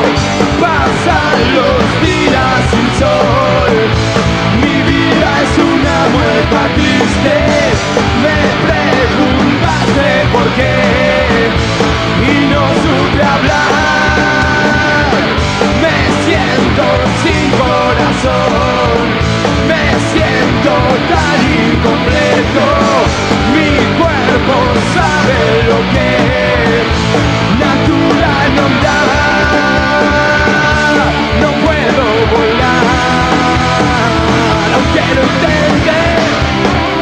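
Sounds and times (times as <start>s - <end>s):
bass guitar: 0.0s - 37.0s
drums with cymbals: 0.0s - 37.0s
electric guitars: 0.0s - 37.0s
punk rock band playing live: 0.0s - 37.0s.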